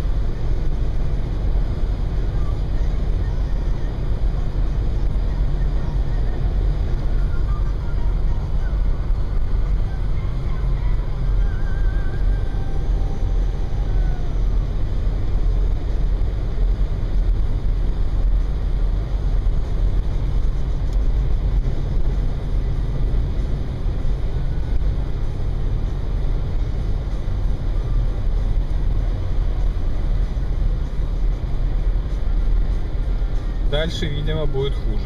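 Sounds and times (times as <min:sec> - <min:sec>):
car engine noise: 0:00.0 - 0:35.0.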